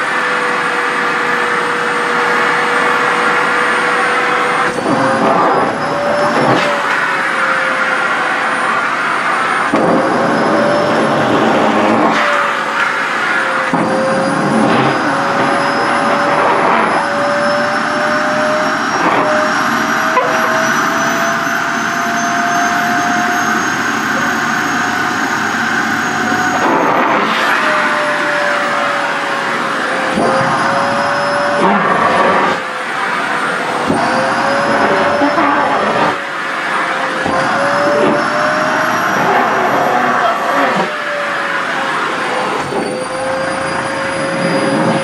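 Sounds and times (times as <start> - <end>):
stick vacuum running: 0.0 - 45.0.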